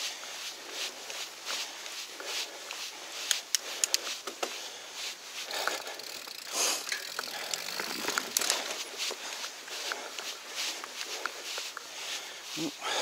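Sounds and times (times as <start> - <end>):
bike tyres rolling over dirt: 0.0 - 13.0
bike clicks and rattles: 0.8 - 12.2.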